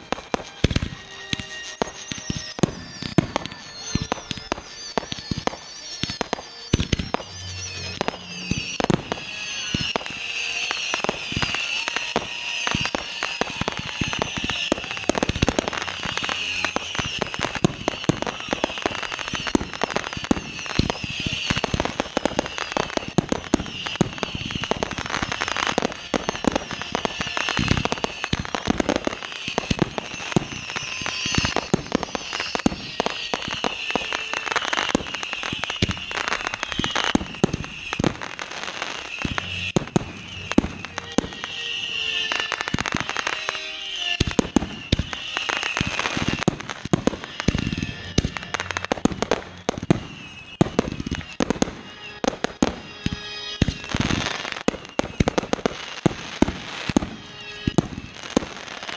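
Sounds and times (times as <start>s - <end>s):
fireworks crackling and banging: 0.0s - 58.9s.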